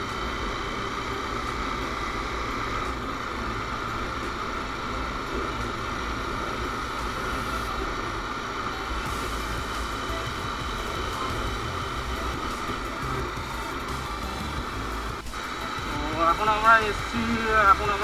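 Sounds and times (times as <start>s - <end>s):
motorcycle engine cruising: 0.0s - 18.0s
road noise: 0.0s - 18.0s.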